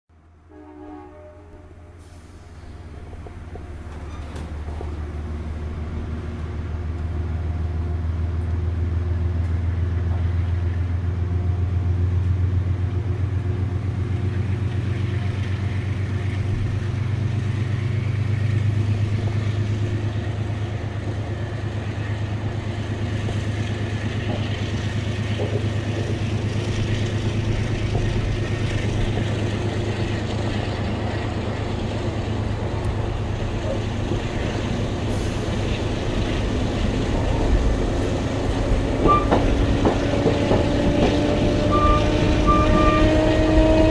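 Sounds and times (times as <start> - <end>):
train running by: 0.4 - 43.9.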